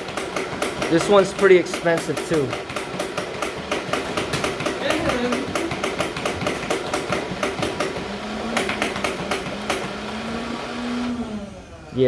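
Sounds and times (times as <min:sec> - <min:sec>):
toy blaster firing clicks: 0:00.0 - 0:10.0.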